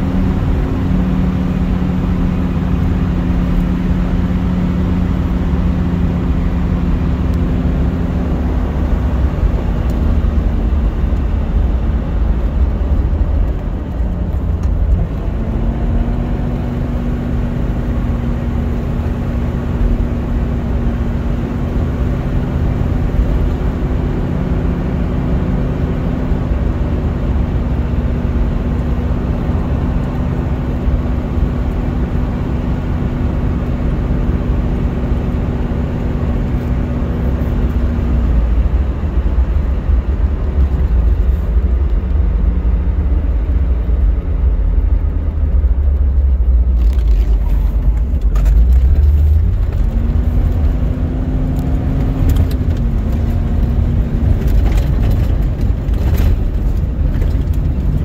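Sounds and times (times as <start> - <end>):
car engine running: 0.0 - 58.0
tyre and road rumble: 0.0 - 58.0.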